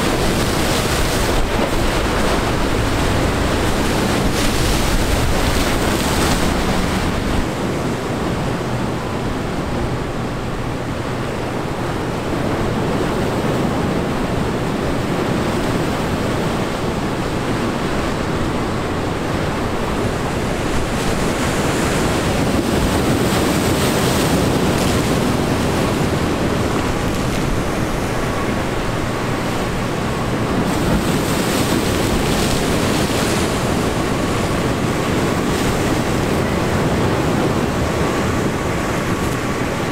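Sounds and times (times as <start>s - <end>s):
surf breaking against rocks: 0.0s - 39.9s
wind buffeting microphone: 0.0s - 39.9s.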